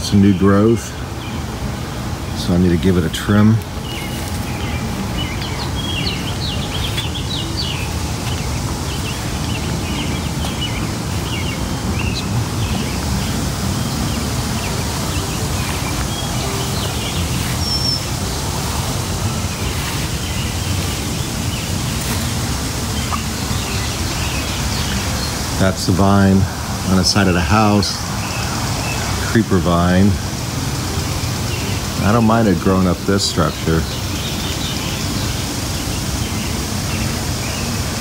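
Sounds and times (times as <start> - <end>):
birds chirping and singing: 0.0 - 38.0.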